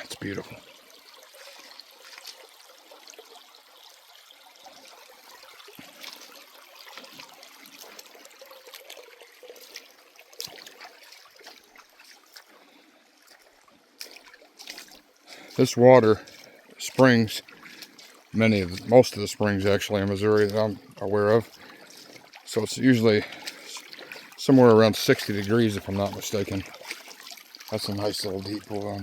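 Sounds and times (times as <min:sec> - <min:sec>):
creek water trickling: 0:00.0 - 0:29.0
small splashes and clicks: 0:00.0 - 0:29.0.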